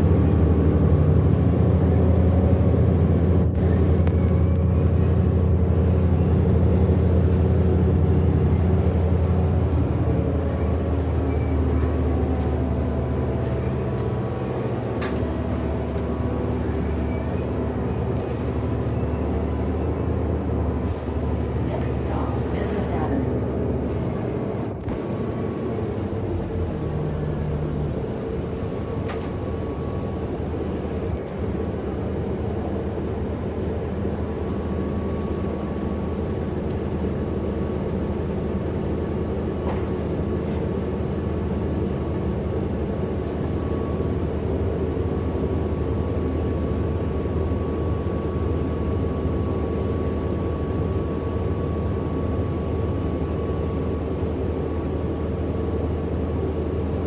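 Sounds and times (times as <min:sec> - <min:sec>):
bus drivetrain hum: 0:00.0 - 0:57.0.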